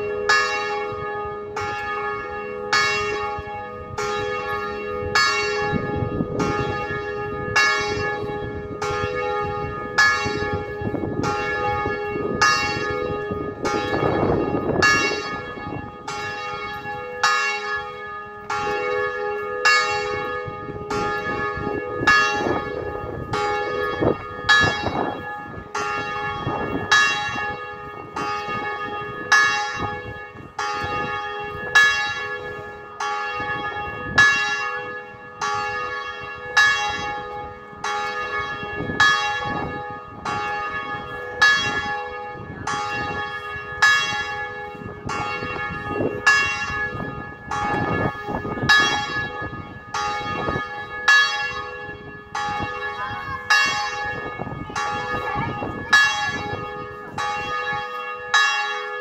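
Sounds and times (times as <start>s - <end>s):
tower bells ringing: 0.0s - 59.0s.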